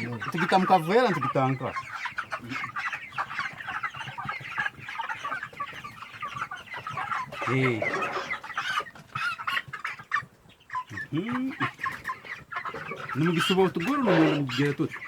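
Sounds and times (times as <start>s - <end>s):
chickens clucking and cheeping: 0.0s - 15.0s.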